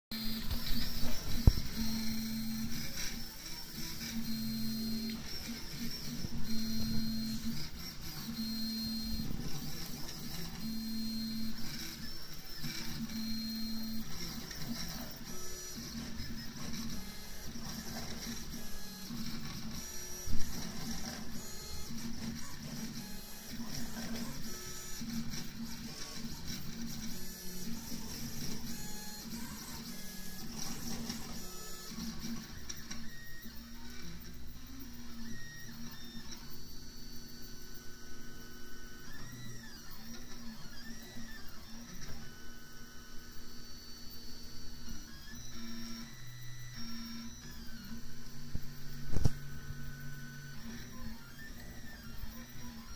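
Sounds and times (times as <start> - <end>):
stepper motors humming: 0.2 - 52.9.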